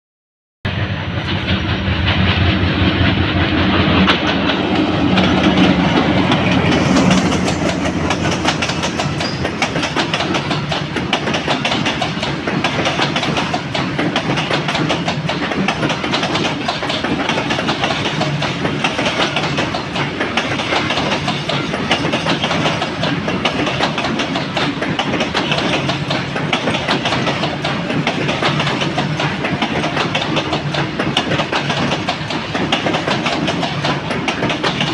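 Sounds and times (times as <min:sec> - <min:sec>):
freight train passing: 0:00.7 - 0:34.9
wheels clattering over rail joints: 0:04.0 - 0:34.9.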